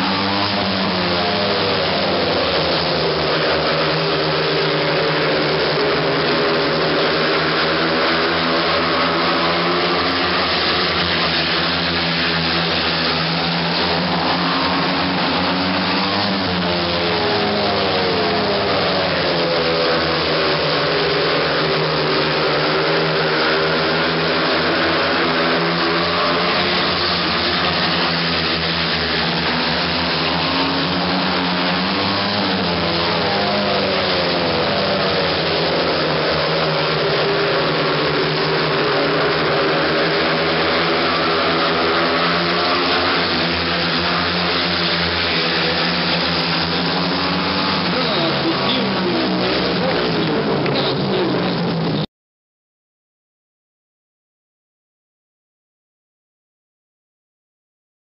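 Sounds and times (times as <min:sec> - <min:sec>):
racing motorcycle engines: 0:00.0 - 0:52.1.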